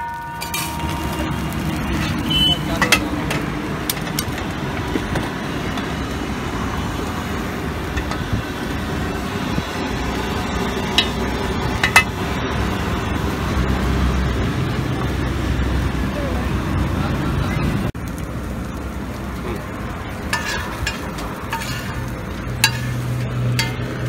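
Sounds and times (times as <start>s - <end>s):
roadside traffic: 0.0s - 24.0s.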